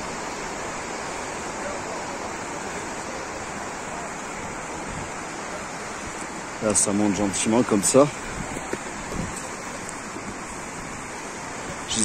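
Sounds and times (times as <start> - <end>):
rushing mountain water: 0.0 - 12.0.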